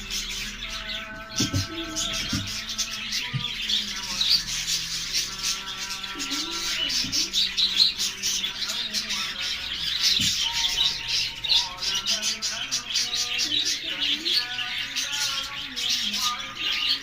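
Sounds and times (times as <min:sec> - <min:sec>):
background music: 0:00.0 - 0:17.0
budgerigars chattering: 0:00.0 - 0:17.0.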